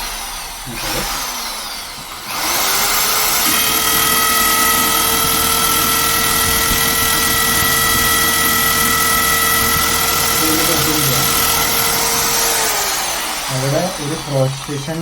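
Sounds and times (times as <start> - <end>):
hammer drill motor whining: 0.0 - 15.0.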